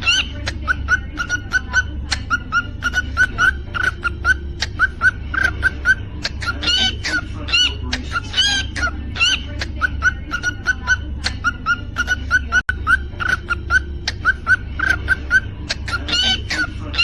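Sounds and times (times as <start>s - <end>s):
cockatiel chirping: 0.0s - 17.0s.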